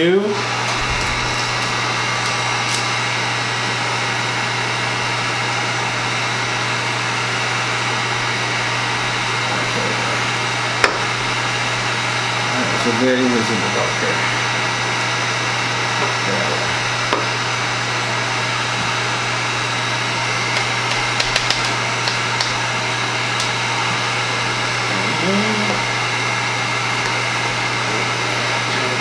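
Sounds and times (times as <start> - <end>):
heat gun blowing: 0.1 - 29.0.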